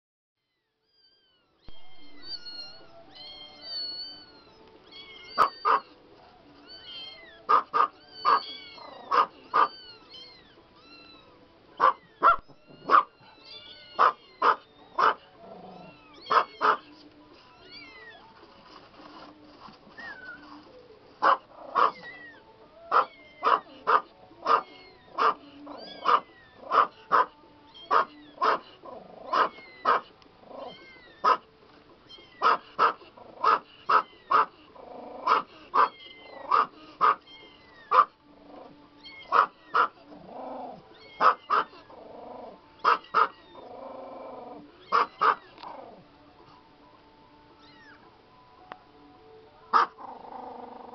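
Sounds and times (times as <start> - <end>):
kittens mewing: 1.2 - 6.0, 6.6 - 11.2, 11.8 - 18.3, 20.0 - 31.5, 32.1 - 46.0.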